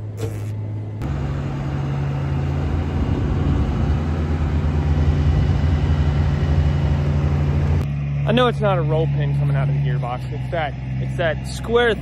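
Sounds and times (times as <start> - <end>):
louder deeper engine: 0.0 - 12.0
vehicle engine running: 0.0 - 12.0.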